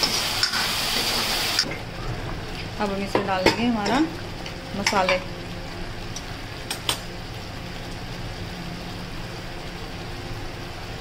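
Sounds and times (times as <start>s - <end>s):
low machine hum: 1.6s - 11.0s.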